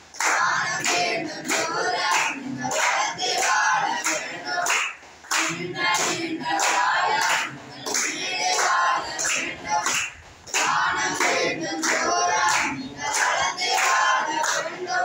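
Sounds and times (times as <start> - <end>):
clapping in time: 0.1 - 14.7
boys singing together: 0.1 - 15.0.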